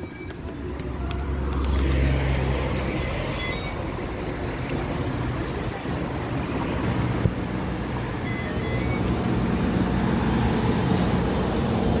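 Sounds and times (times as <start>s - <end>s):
bus engine rumbling: 0.0s - 12.0s
street traffic noise: 0.0s - 12.0s.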